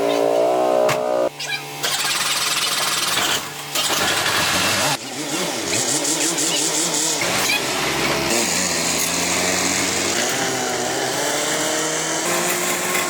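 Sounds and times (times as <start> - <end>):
power tools running: 0.0 - 13.0.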